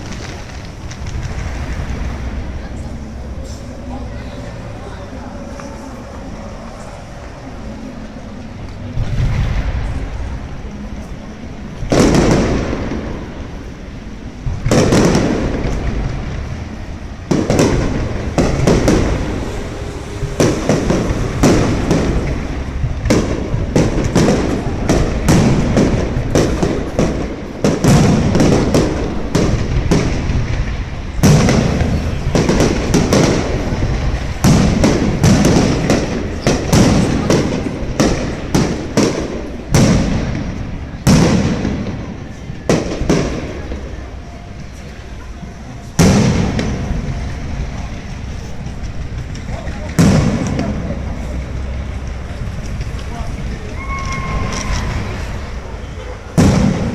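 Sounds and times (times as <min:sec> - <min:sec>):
fireworks crackling: 0:00.0 - 0:56.9.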